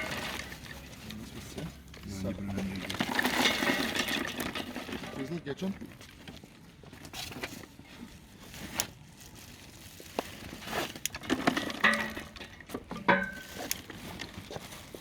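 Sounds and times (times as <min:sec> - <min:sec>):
twigs rustling and crackling: 0:00.0 - 0:15.0.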